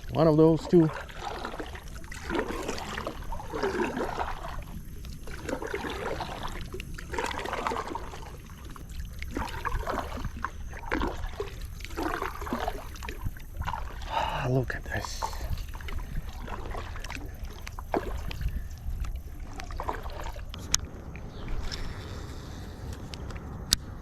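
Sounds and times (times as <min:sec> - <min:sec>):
steady low rumble: 0:00.0 - 0:24.0
water trickling and splashing: 0:00.0 - 0:24.0.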